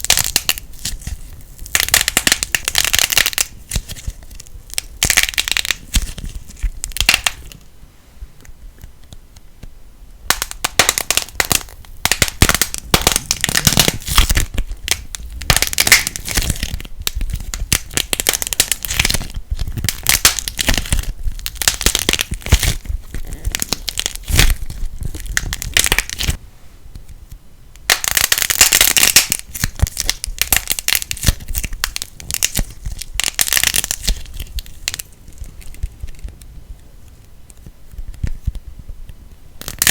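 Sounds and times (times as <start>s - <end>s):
plasticine being kneaded: 0.0s - 7.7s, 8.3s - 26.4s, 27.0s - 39.9s.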